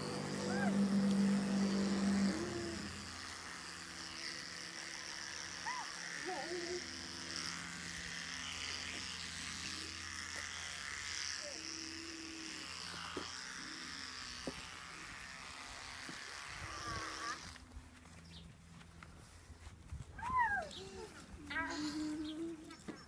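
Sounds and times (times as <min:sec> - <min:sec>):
low motor buzz: 0:00.0 - 0:18.5.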